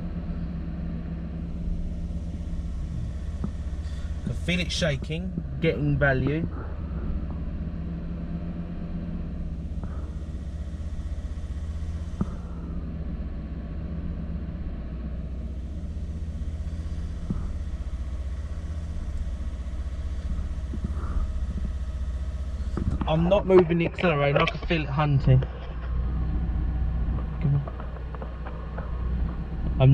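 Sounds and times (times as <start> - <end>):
car engine running with misfire: 0.0 - 29.9.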